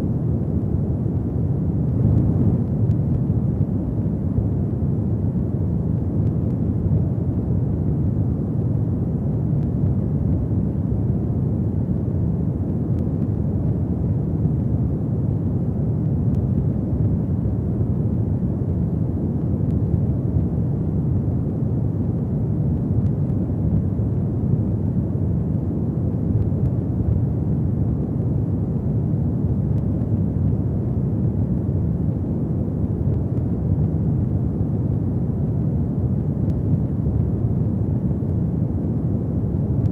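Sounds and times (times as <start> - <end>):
faint fire crackles: 0.0 - 39.9
fire burning with low roar: 0.0 - 39.9.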